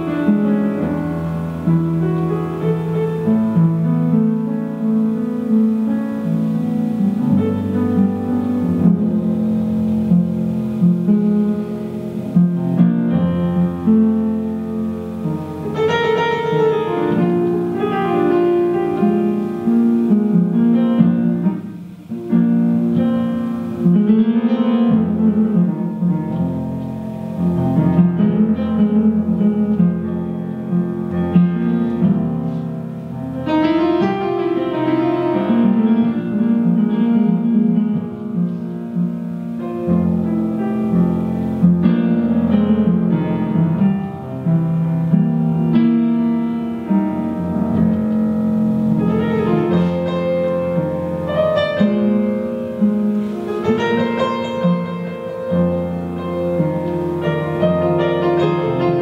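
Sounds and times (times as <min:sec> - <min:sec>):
instrumental melody in long notes: 0:00.0 - 0:59.0.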